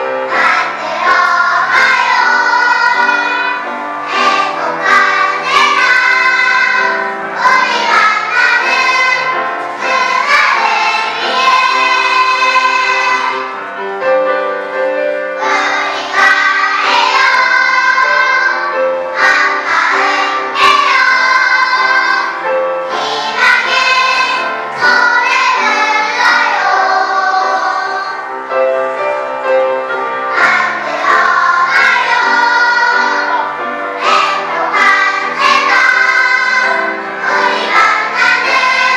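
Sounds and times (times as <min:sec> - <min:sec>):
children's choir singing: 0:00.0 - 0:38.9.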